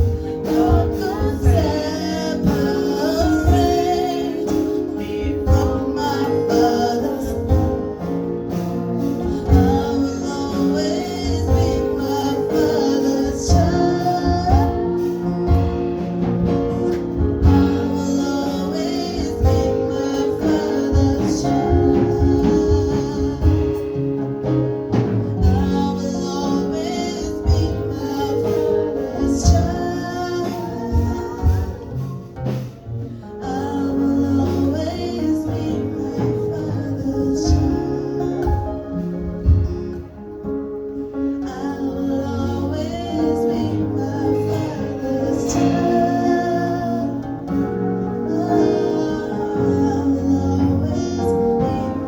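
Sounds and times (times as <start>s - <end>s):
gospel singing over instruments: 0.0s - 52.0s.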